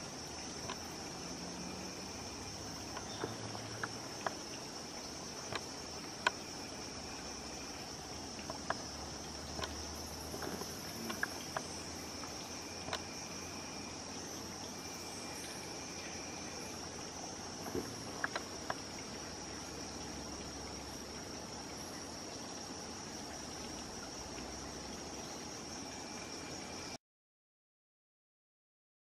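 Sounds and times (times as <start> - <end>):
forest insects droning: 0.0 - 27.0.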